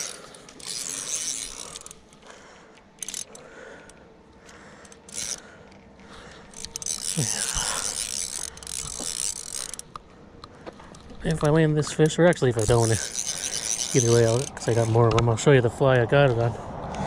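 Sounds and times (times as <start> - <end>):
fishing reel drag ratcheting: 0.0 - 10.1, 10.8 - 15.3.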